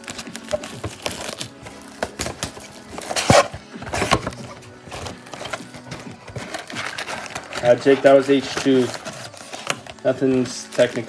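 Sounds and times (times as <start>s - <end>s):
foil packs crinkling and tearing: 0.0s - 11.0s.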